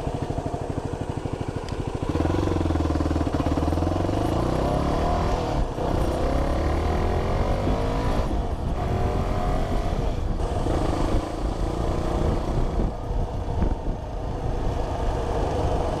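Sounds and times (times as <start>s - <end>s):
vehicle engine accelerating: 2.0s - 16.0s.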